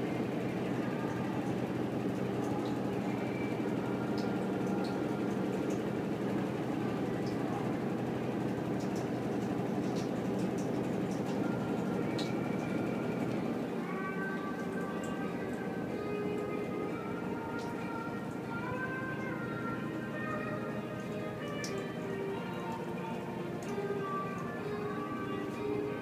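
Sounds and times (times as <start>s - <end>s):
washing machine drum humming: 0.0s - 26.0s.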